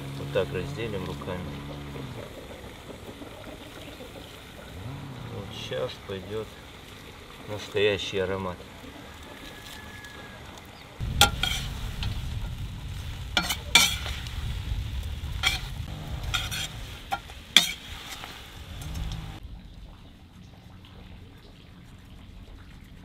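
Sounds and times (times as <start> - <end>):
meat frying in a pot: 0.0 - 19.5.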